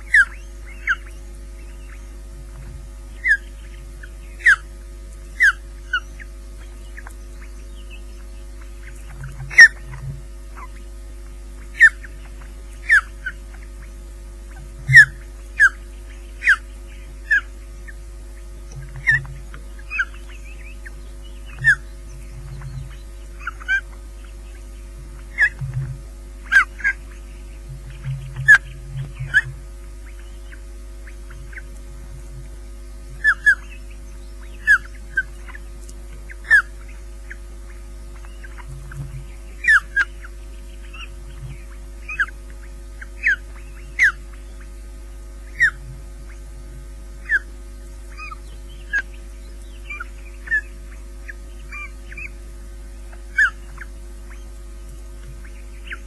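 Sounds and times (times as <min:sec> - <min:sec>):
osprey chirps: 0:00.0 - 0:11.0, 0:11.6 - 0:46.6, 0:47.2 - 0:56.0
steady low hum: 0:00.0 - 0:56.0.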